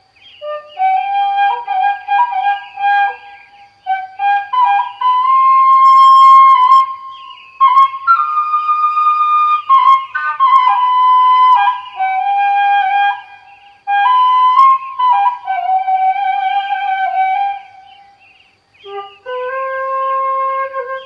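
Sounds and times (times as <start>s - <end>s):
slow flute melody: 0.4s - 18.2s, 18.8s - 21.0s.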